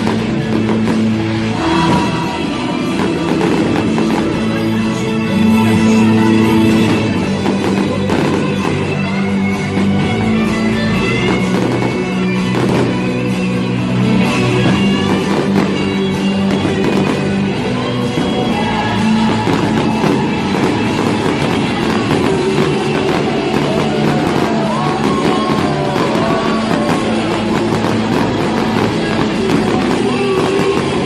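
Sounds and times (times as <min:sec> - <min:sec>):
rock music with guitar: 0:00.0 - 0:31.0.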